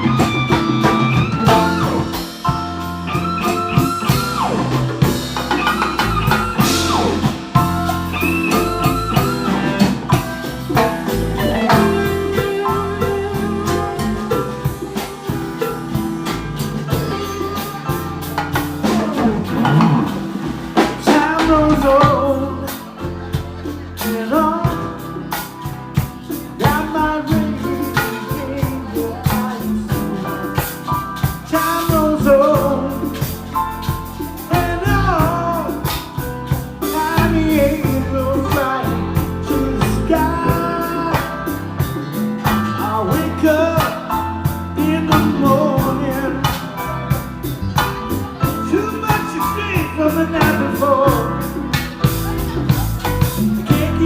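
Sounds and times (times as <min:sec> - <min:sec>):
live band playing: 0:00.0 - 0:54.0
person singing: 0:00.0 - 0:54.0
steady drum beat: 0:00.0 - 0:54.0.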